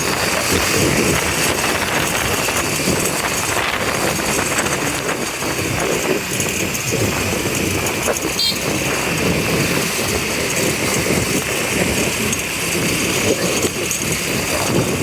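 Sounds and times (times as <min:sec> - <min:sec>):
motorbike engine running: 0:00.0 - 0:15.0
road and traffic noise: 0:00.0 - 0:15.0.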